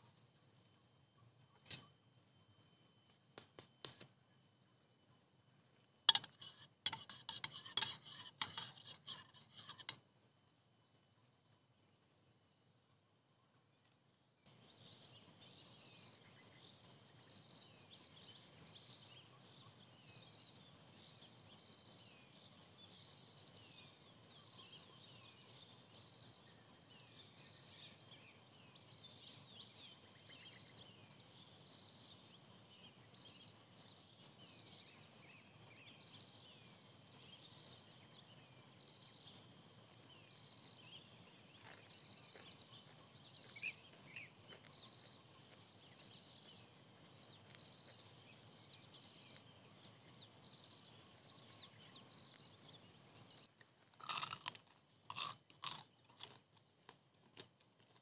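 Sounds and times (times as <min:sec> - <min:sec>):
bird chirps: 0:00.0 - 0:10.0, 0:14.5 - 0:53.5.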